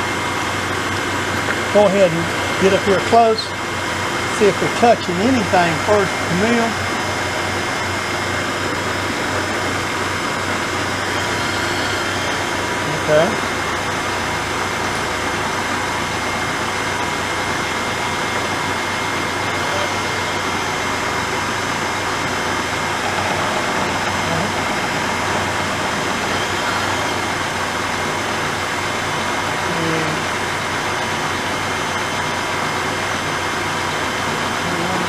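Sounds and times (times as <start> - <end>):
milling machine humming: 0.0 - 35.0.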